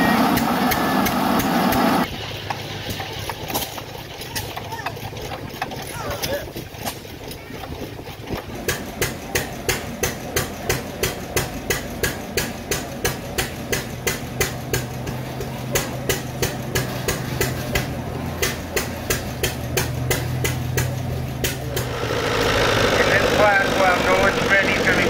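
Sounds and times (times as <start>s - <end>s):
machine knocking steadily: 0.4s - 25.0s.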